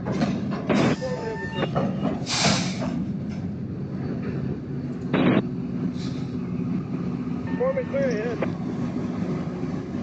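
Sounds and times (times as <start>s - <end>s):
rail grinder train rumbling: 0.0s - 10.0s.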